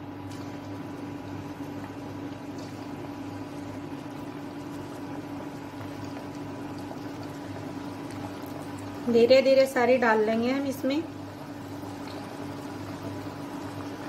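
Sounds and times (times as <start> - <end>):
oil bubbling sizzle: 0.0 - 14.0
steady low hum: 0.0 - 14.0.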